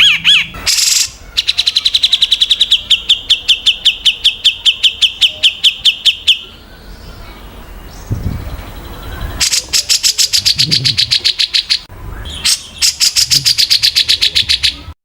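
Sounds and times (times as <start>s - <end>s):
songbird rapid down-slurred notes: 0.0s - 15.0s.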